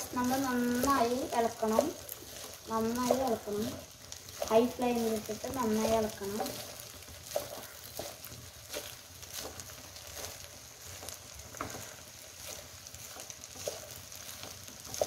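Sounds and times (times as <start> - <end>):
rice sizzling in a pan: 0.0 - 15.0
spatula scraping and knocking pan: 0.0 - 15.0.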